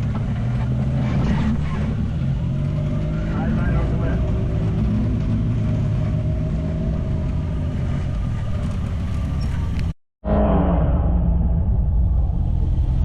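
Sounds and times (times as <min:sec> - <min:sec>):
engine running at low revs: 0:00.0 - 0:10.0, 0:11.5 - 0:13.0.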